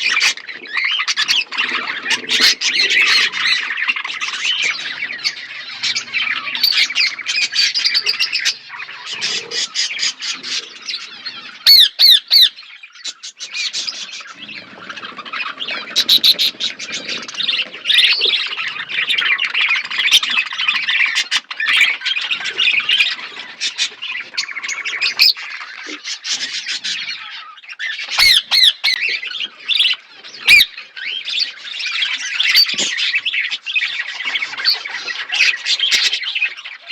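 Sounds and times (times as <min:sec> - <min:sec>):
budgerigars chattering and squawking: 0:00.0 - 0:36.9.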